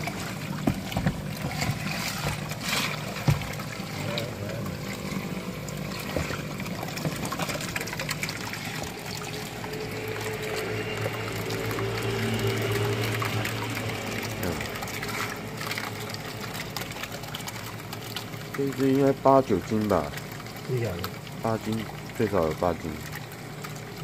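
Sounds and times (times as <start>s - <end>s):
steady low hum: 0.0s - 24.0s
water splashing and sloshing: 0.0s - 24.0s.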